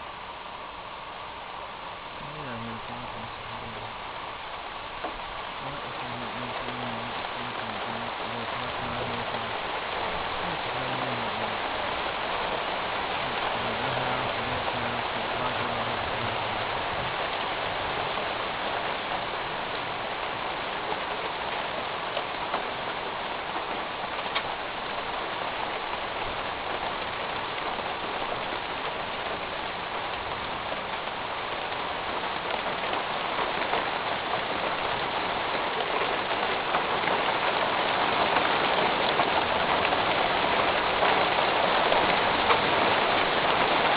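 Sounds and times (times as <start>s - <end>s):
heavy rain on a metal roof: 0.0s - 43.9s.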